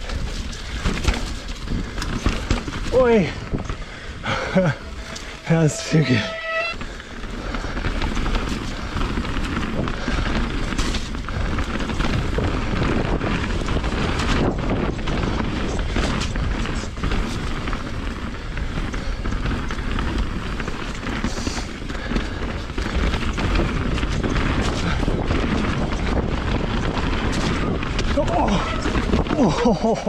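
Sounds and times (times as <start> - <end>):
bike knocks and rattles: 0.0 - 5.5, 6.4 - 30.0
tyres on trail: 0.0 - 30.0
wind rumble on microphone: 0.0 - 30.0.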